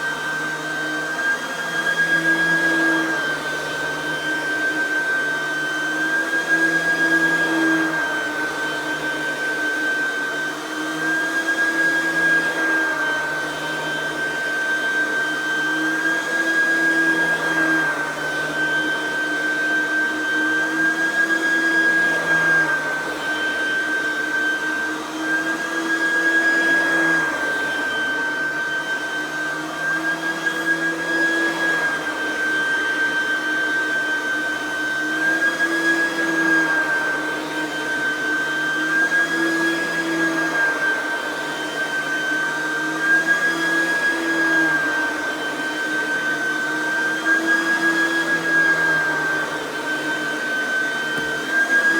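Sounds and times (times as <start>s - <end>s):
vacuum cleaner high whine: 0.0s - 51.9s.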